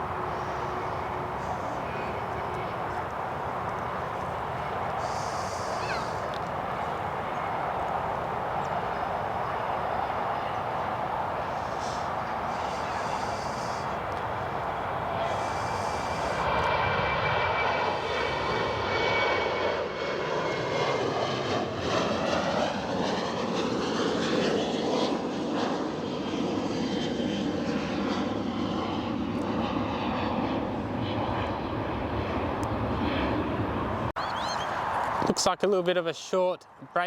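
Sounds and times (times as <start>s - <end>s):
jet taking off: 0.0s - 2.9s, 4.7s - 6.4s, 7.2s - 35.4s.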